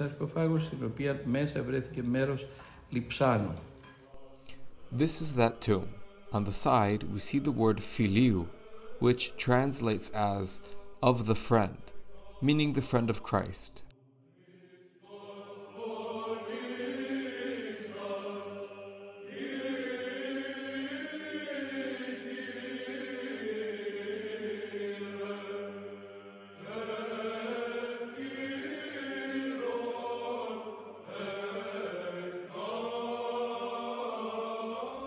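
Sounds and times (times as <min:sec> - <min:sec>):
voices chanting: 0:04.1 - 0:35.0.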